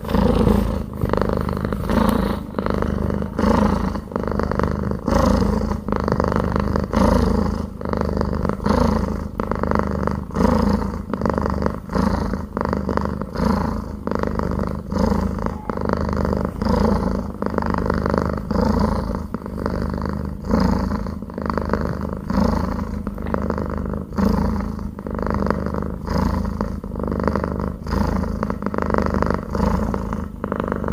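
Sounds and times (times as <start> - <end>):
cat purring: 0.0 - 30.9.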